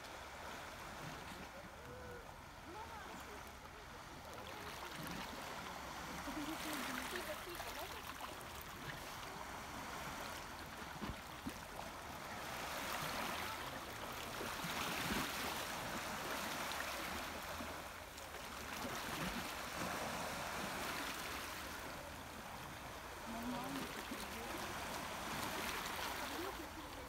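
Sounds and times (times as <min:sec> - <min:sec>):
small waves washing over rocks: 0:00.0 - 0:27.0.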